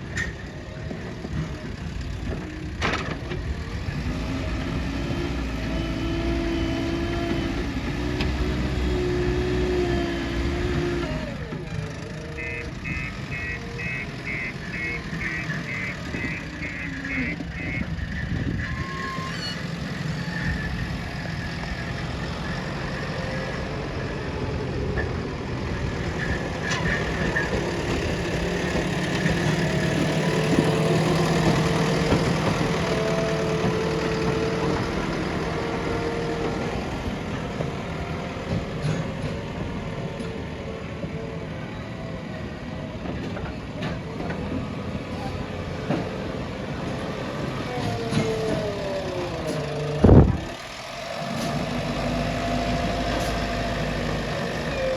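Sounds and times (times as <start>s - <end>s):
diesel engine running: 0.0s - 54.9s
engine whine: 0.0s - 54.9s.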